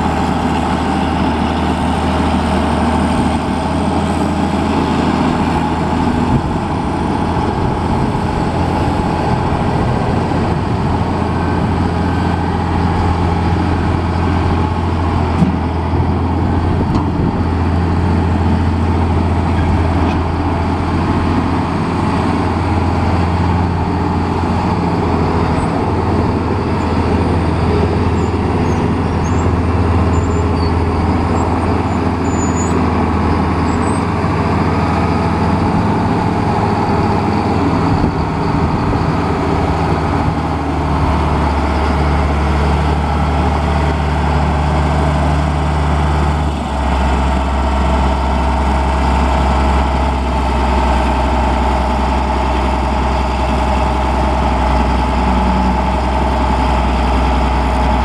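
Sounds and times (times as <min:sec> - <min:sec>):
diesel engine running: 0:00.0 - 0:58.0
grader driving on gravel: 0:00.0 - 0:58.0.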